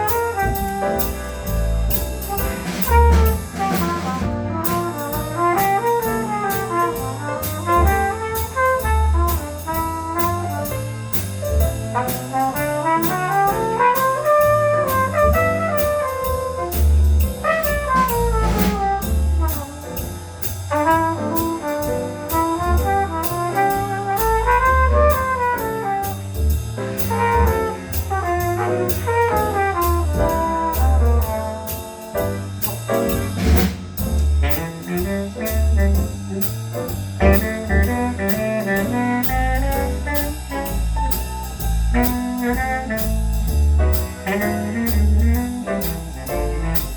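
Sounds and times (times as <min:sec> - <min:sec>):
bass line: 0:00.0 - 0:46.9
cymbal beat: 0:00.0 - 0:46.9
horns playing jazz melody: 0:00.0 - 0:46.9.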